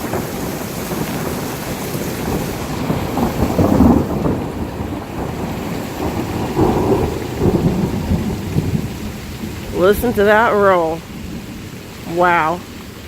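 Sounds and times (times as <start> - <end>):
hail: 0.0 - 13.0
heavy rain: 0.0 - 13.0
thunder rumbling: 0.0 - 13.0.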